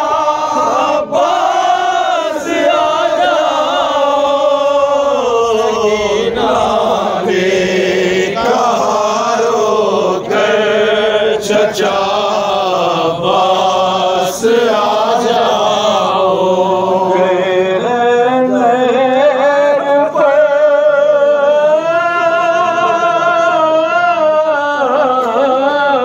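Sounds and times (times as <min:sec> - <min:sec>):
voices singing a lament: 0:00.0 - 0:26.0.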